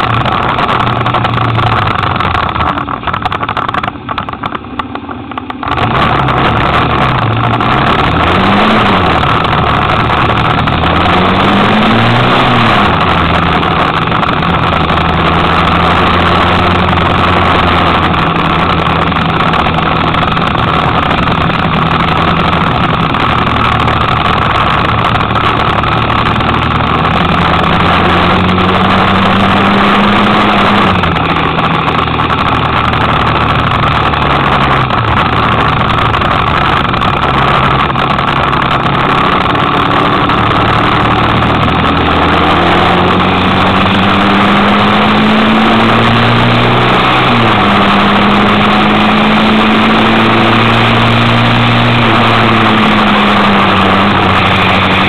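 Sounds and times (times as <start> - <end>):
motorcycle engine revving: 0.0 - 55.0
wind and road noise: 0.0 - 55.0.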